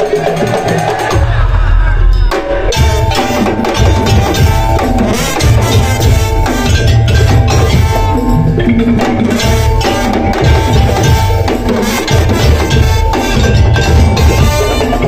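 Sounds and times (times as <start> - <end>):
driving drums: 0.0 - 15.0
ringing tuned percussion melody: 0.0 - 15.0
wood-block-like knocking: 2.8 - 15.0.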